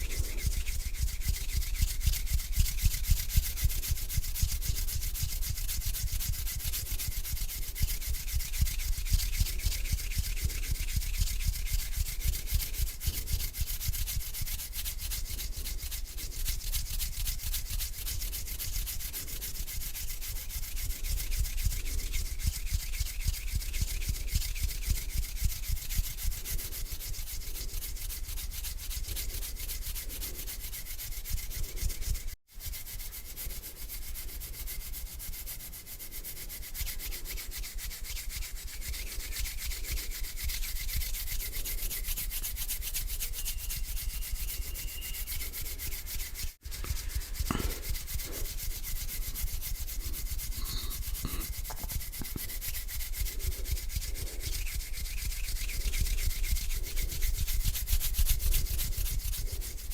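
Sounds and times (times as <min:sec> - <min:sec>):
hands rubbing together: 0:00.0 - 0:59.9.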